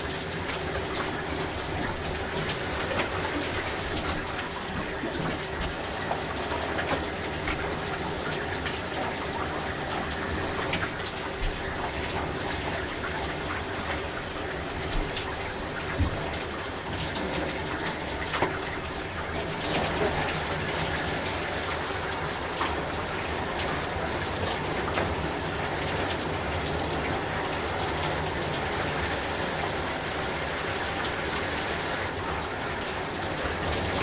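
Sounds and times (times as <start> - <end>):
shower water spraying: 0.0 - 34.0
water splashes: 0.0 - 34.0.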